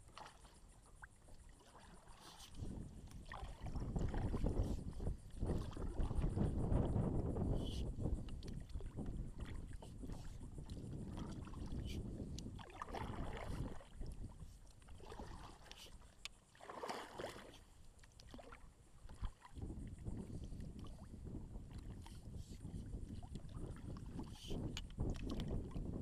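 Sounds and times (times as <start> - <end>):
kayak paddles swishing through water: 0.0 - 26.0
wind rumble on microphone: 2.2 - 16.0, 18.9 - 26.0.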